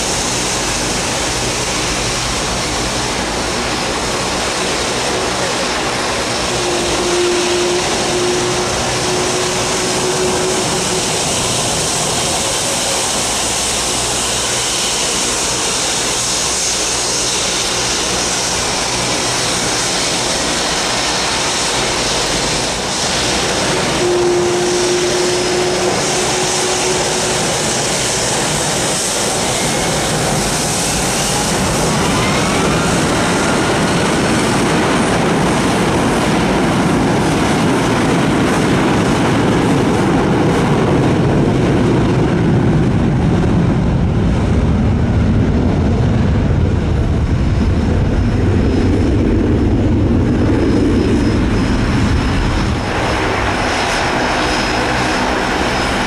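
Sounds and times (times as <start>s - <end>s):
jet engines taxiing: 0.0s - 56.0s.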